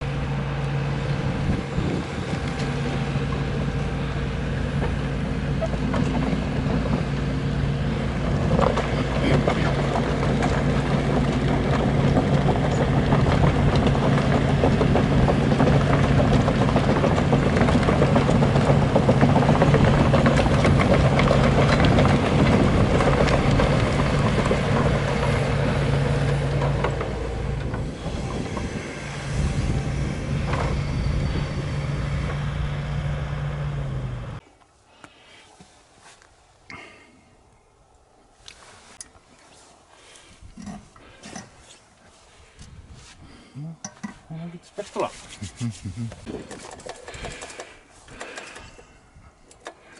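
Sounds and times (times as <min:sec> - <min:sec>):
bulldozer diesel engine humming: 0:00.0 - 0:49.9.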